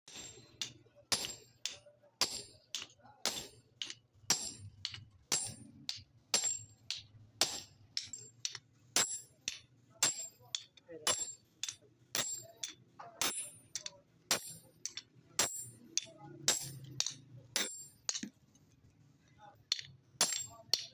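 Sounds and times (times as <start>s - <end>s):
hammer ringing on anvil: 0.1s - 18.3s, 19.7s - 20.9s.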